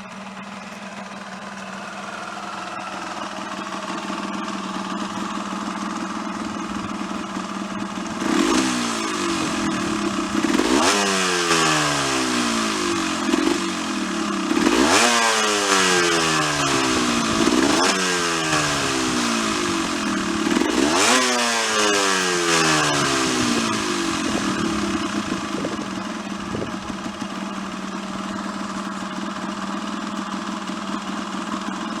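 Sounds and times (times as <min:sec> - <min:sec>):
two-stroke engine idling and revving: 0:00.0 - 0:32.0.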